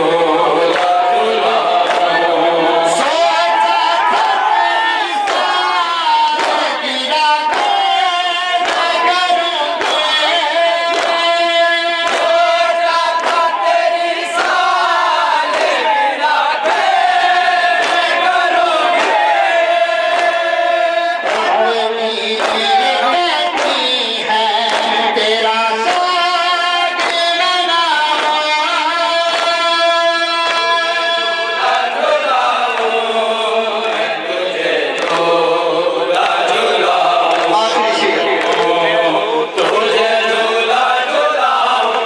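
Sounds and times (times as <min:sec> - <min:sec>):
men chanting a mourning lament: 0:00.0 - 0:42.0.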